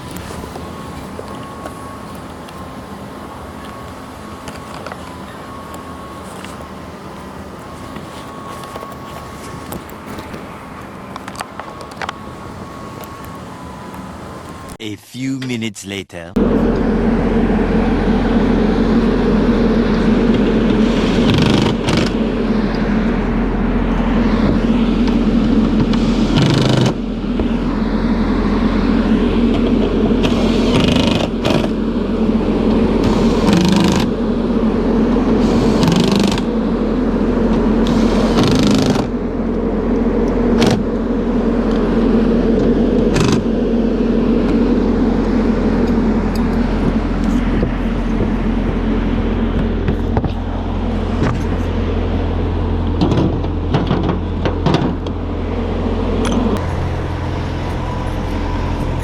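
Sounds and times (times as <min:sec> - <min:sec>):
bus engine idling: 0:00.0 - 0:14.8, 0:16.4 - 0:59.0.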